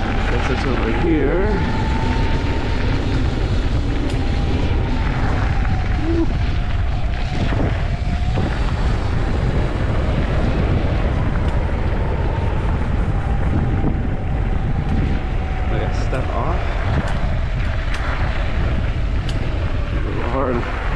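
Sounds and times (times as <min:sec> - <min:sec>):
electric motorbike motor whining: 0:00.0 - 0:20.9
wind rumble on microphone: 0:00.0 - 0:20.9.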